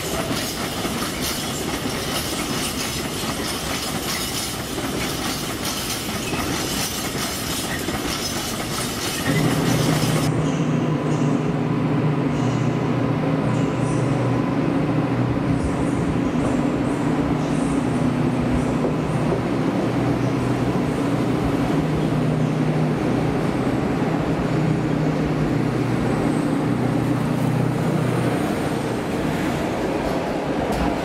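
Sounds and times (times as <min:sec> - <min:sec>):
diesel locomotive engine droning: 0:00.0 - 0:31.0
passing train rolling: 0:00.0 - 0:31.0.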